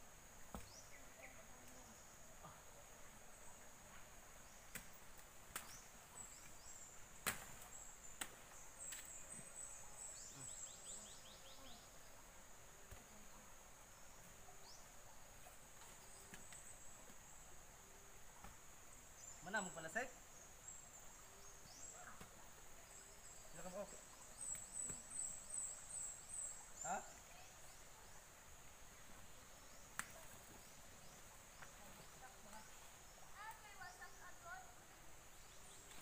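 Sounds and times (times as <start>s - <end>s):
faint chirps: 0.4s - 36.0s.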